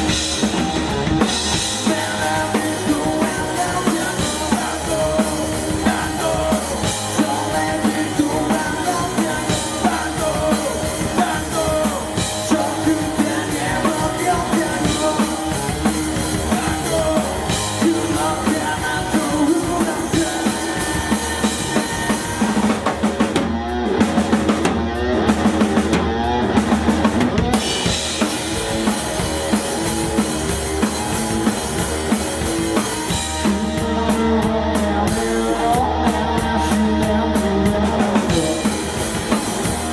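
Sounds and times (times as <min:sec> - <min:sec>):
drum kit kick snare and cymbals: 0:00.0 - 0:39.9
live rock band playing: 0:00.0 - 0:39.9.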